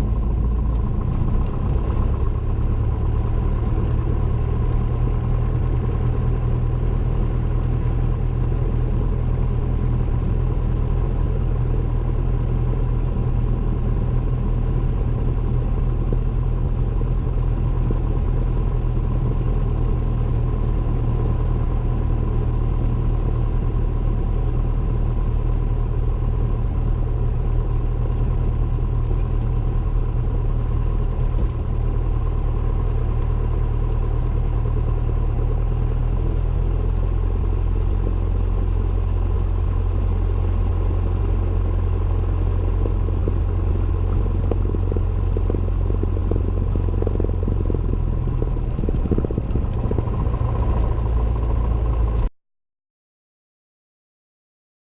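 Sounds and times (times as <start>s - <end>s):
airplane engine drone in cabin: 0.0s - 52.3s.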